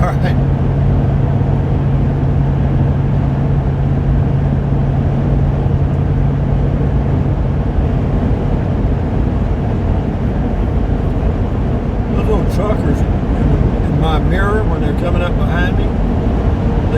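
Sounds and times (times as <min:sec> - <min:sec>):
low hum: 0:00.0 - 0:16.9
road and engine drone: 0:00.0 - 0:16.9.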